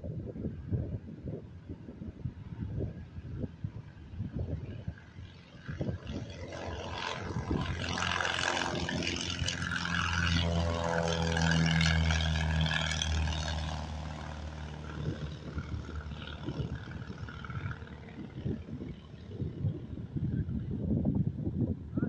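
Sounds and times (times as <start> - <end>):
light aircraft engine: 0.0 - 22.0
wind buffeting microphone: 0.0 - 22.0.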